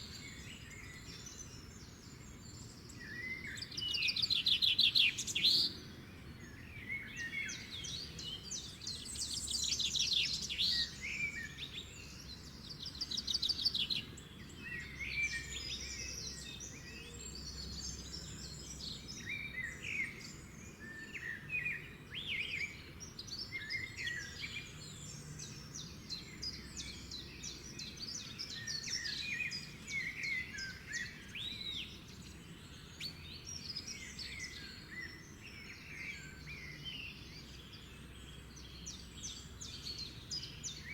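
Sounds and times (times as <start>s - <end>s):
wild birds singing and chirping: 0.0s - 40.9s.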